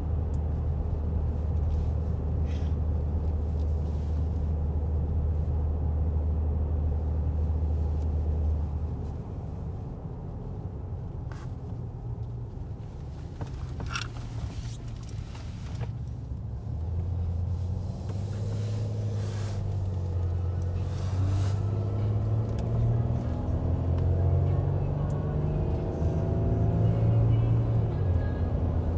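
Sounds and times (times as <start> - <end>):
car engine and road drone: 0.0 - 28.9.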